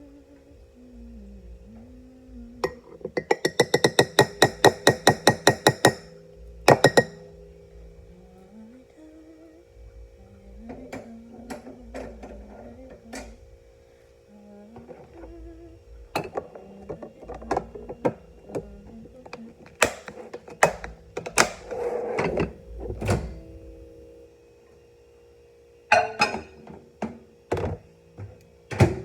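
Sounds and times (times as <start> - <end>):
steady low tone: 0.0 - 19.8, 20.6 - 24.9.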